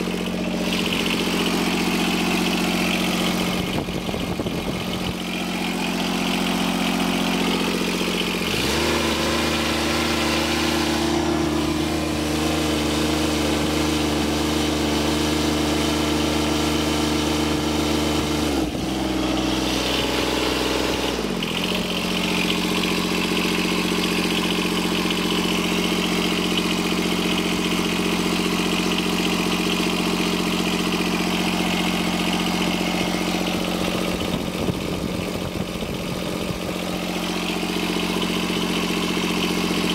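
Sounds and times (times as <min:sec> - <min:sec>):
diesel mower engine running: 0:00.0 - 0:39.9.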